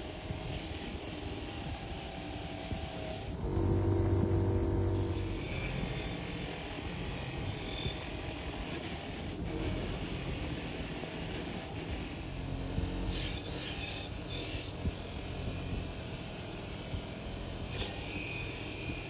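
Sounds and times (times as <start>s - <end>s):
bench grinder motor hum: 0.0s - 19.0s
wire wheel scrubbing metal: 0.0s - 19.0s.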